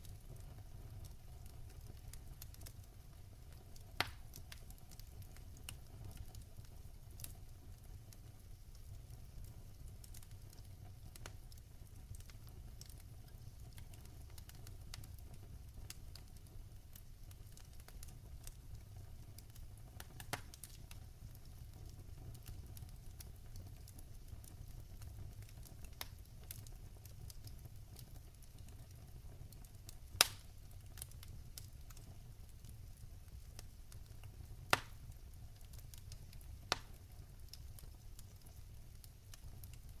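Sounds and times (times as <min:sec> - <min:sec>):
fire popping: 0:00.0 - 0:40.0
wood fire crackling: 0:00.0 - 0:40.0.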